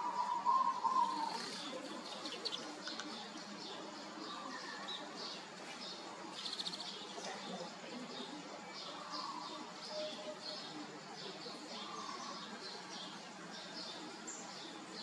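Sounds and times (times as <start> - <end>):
small birds chirping: 0.0 - 15.0
steady background noise: 0.0 - 15.0.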